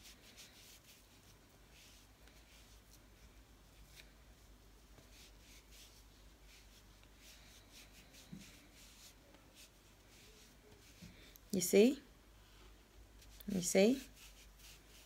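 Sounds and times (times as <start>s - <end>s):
soft pad rubbing on skin: 0.0s - 15.0s.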